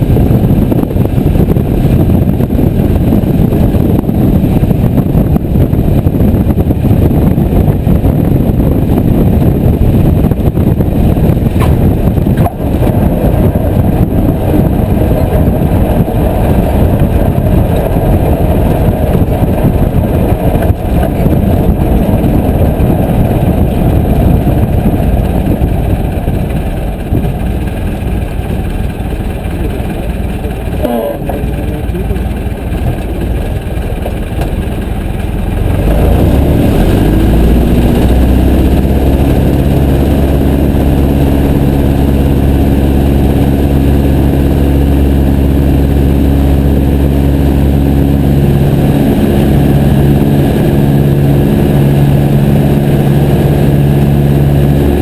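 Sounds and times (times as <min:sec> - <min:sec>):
small plane engine and propeller: 0:00.0 - 0:55.0.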